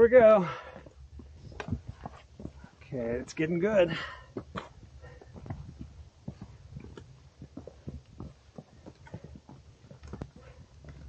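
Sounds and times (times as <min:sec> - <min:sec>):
boots stepping on rock: 0:00.7 - 0:02.7, 0:03.9 - 0:11.0.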